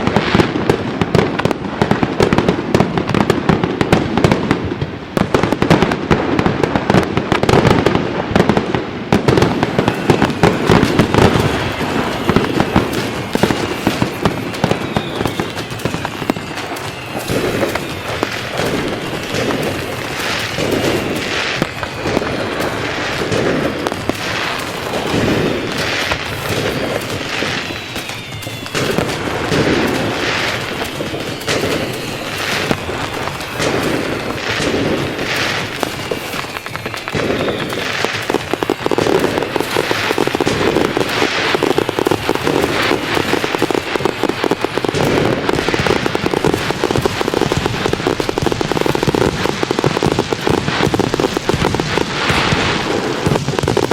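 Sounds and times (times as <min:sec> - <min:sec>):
fireworks bangs and crackling: 0:00.0 - 0:53.9
fireworks whistling: 0:00.0 - 0:53.9.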